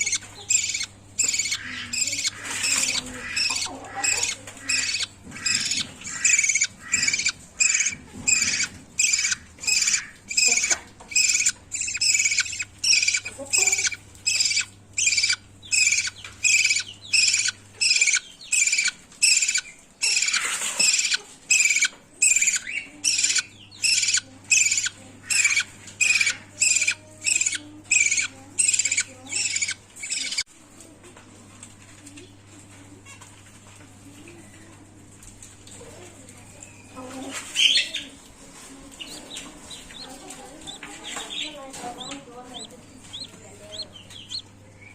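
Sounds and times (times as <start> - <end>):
budgerigar chicks begging calls: 0.0 - 30.4, 37.5 - 38.2, 39.0 - 44.9.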